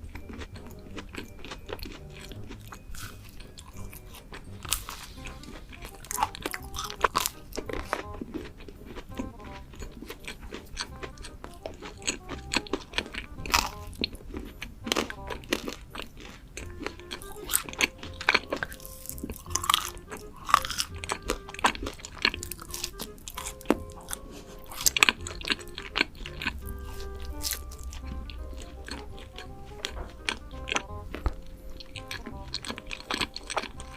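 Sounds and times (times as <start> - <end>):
crunching crisp food: 0.0 - 33.9
soft background music: 0.0 - 33.9.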